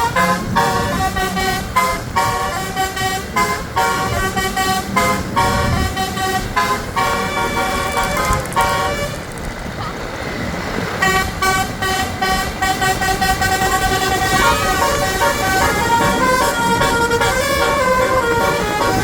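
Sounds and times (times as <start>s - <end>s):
multi-tone bus horn playing a tune: 0.0s - 9.2s, 10.9s - 19.0s.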